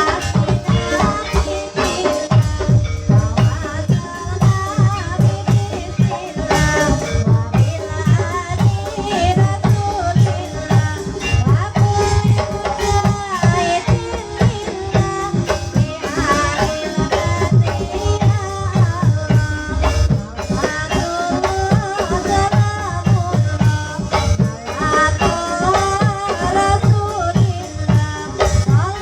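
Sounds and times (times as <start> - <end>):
wavering melody line: 0.0 - 26.9
drums beating fast rhythm: 0.0 - 29.0
pitched percussion: 0.0 - 29.0.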